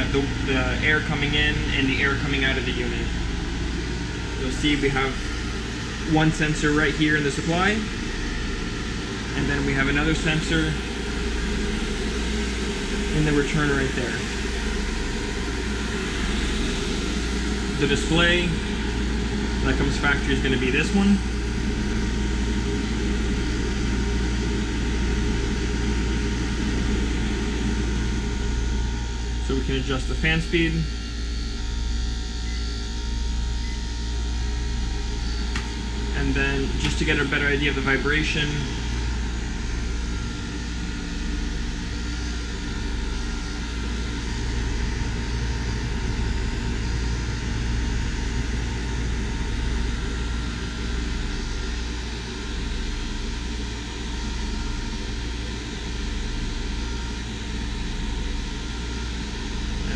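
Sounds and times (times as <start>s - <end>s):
heat pump fan blowing: 0.0s - 59.9s
low hum: 0.0s - 59.9s.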